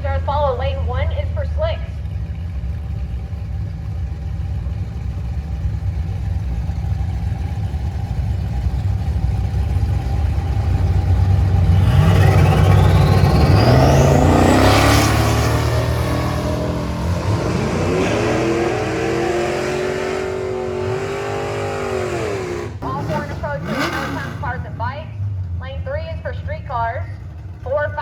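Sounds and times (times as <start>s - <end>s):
drag racing engine rumbling: 0.0s - 28.0s
high engine whine: 0.0s - 28.0s.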